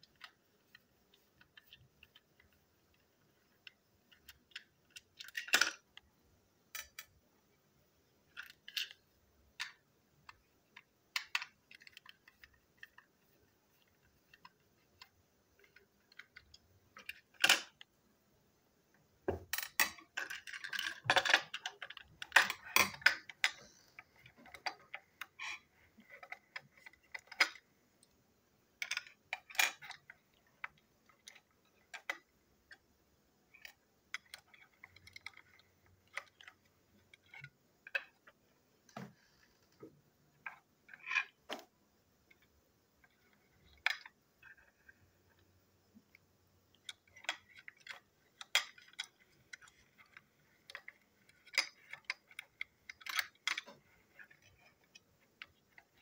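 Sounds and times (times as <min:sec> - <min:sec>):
plastic toy parts clicking: 0:00.0 - 0:06.0, 0:06.7 - 0:07.2, 0:08.2 - 0:17.9, 0:19.4 - 0:32.8, 0:33.5 - 0:38.4, 0:42.2 - 0:45.4, 0:46.1 - 0:56.0.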